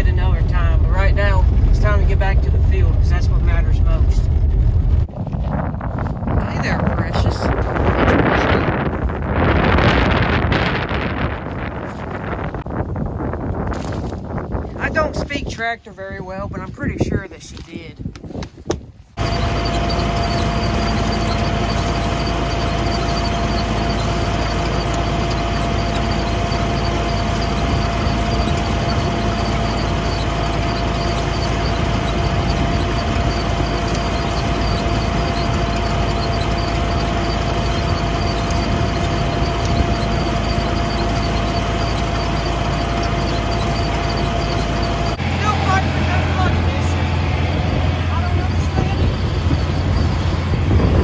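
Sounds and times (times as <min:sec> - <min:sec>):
constant high whine: 0:00.0 - 0:18.0, 0:19.0 - 0:51.0
tractor engine rumble: 0:00.0 - 0:51.0.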